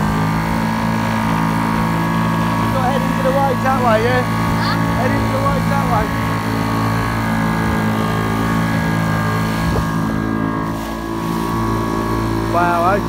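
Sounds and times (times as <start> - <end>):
outboard motor running: 0.0 - 13.0
water rushing: 0.0 - 13.0.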